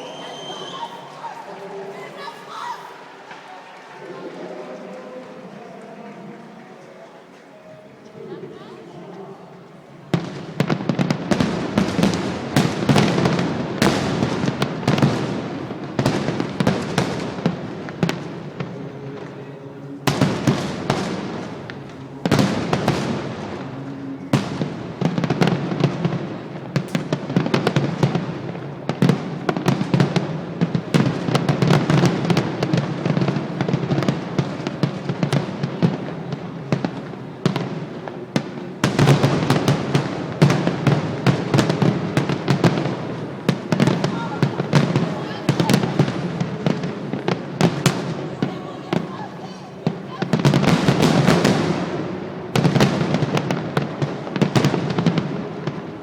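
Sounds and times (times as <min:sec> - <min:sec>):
fireworks bangs and crackles: 0:10.0 - 0:56.0.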